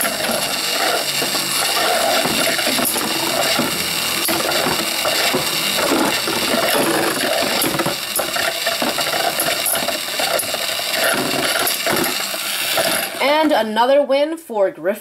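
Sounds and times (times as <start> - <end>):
spinning tops clicking and clashing: 0.0 - 13.5
spinning tops whirring: 0.0 - 13.6.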